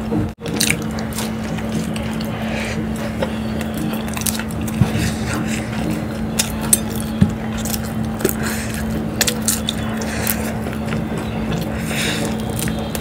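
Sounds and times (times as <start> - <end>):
steady low hum: 0.0 - 13.0
chewing: 0.4 - 13.0.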